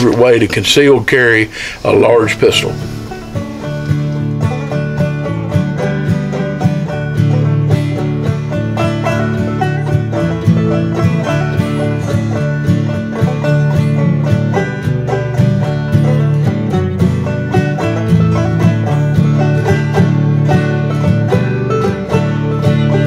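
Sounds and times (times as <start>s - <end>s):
upbeat bluegrass tune with banjo: 0.0s - 23.0s.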